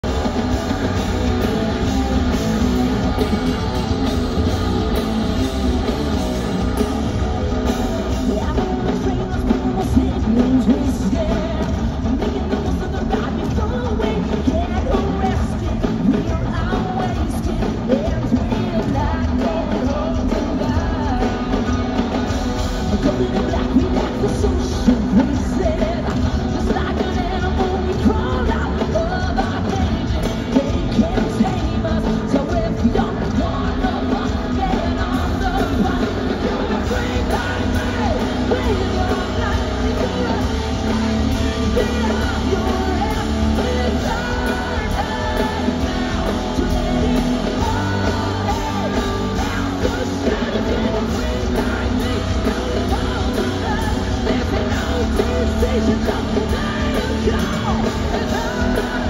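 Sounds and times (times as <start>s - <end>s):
bass guitar: 0.0s - 59.0s
distorted electric guitar: 0.0s - 59.0s
drum kit: 0.0s - 59.0s
woman singing: 7.6s - 21.9s, 22.8s - 59.0s.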